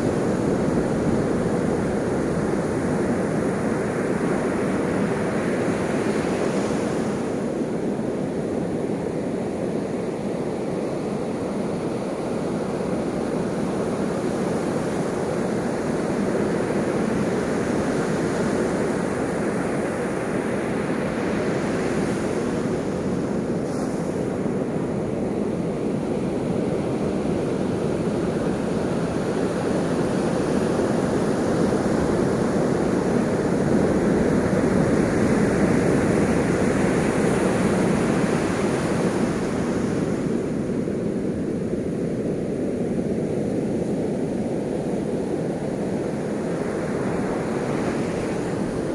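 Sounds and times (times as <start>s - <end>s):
ocean waves washing in surf: 0.0s - 48.9s.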